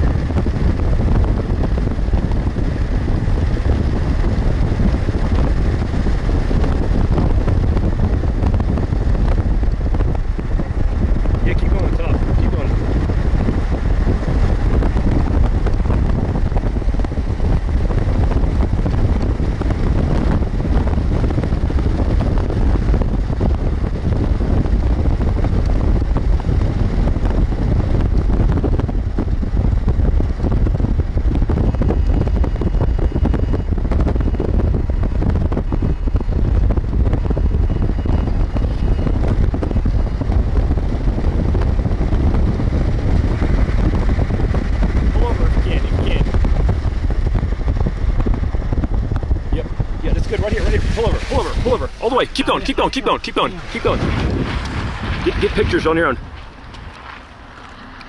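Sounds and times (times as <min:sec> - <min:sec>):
car engine and road rumble: 0:00.0 - 0:58.0
wind rushing over microphone: 0:00.0 - 0:58.0.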